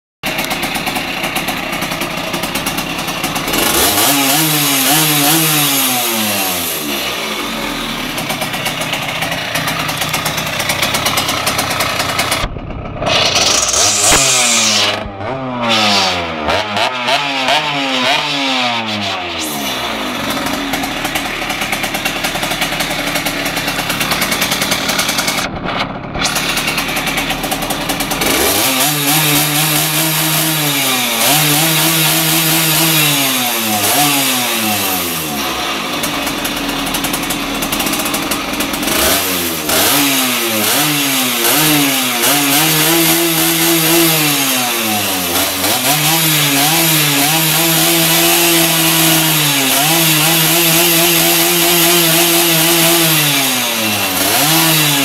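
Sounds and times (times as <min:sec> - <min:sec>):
two-stroke engine revving: 0:00.2 - 0:55.0.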